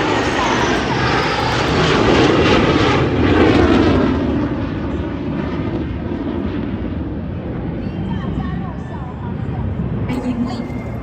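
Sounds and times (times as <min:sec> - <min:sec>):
aircraft engine flying past: 0:00.0 - 0:11.0.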